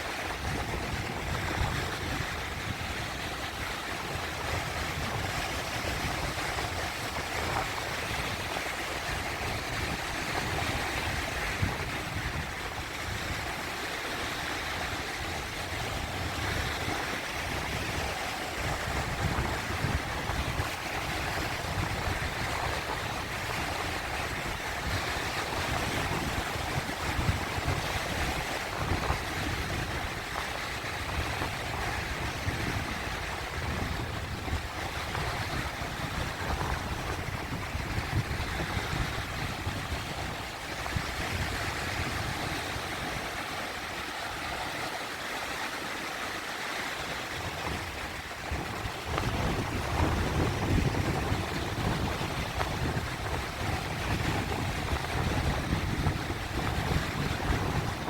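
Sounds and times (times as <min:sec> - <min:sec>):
sea waves washing over rocks: 0:00.0 - 0:58.0.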